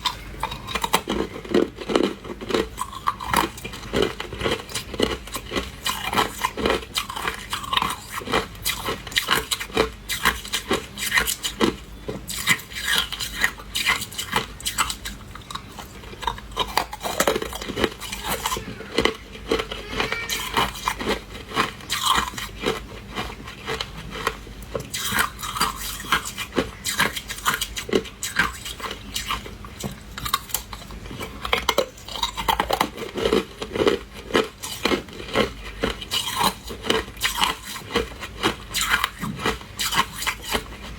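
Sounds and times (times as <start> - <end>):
ice crunching being chewed: 0.0 - 40.9.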